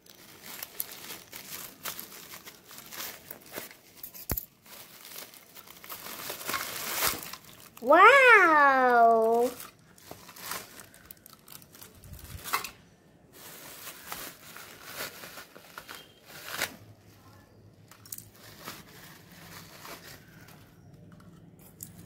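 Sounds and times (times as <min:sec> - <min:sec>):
plastic wrapping crinkling: 0:00.0 - 0:21.1.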